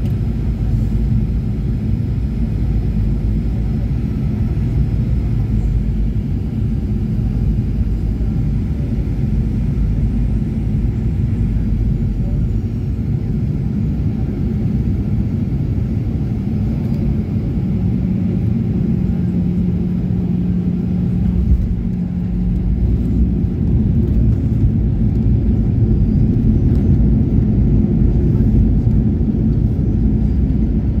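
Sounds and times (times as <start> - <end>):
airliner engine and airflow rumble: 0.0 - 31.0.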